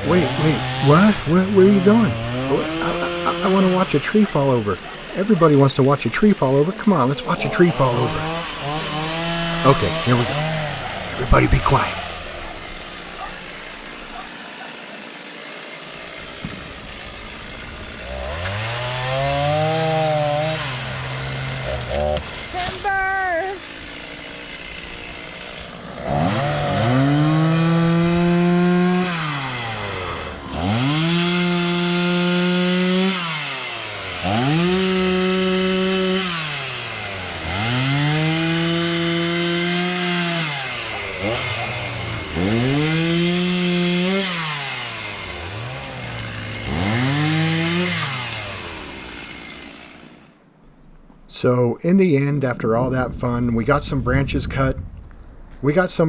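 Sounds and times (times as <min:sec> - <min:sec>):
chainsaw revving: 0:00.0 - 0:50.4.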